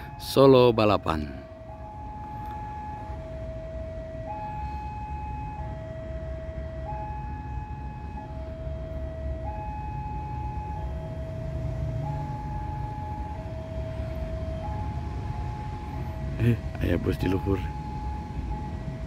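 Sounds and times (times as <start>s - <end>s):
level crossing alarm: 0.0s - 19.0s.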